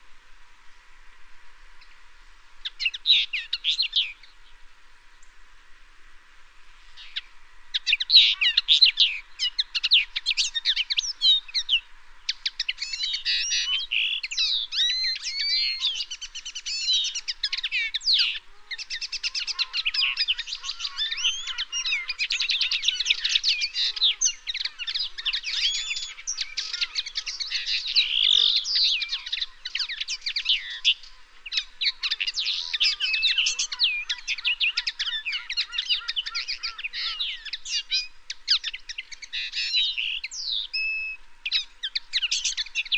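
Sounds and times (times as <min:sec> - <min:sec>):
songbirds chirping and singing: 0:02.7 - 0:04.6, 0:07.0 - 0:42.9.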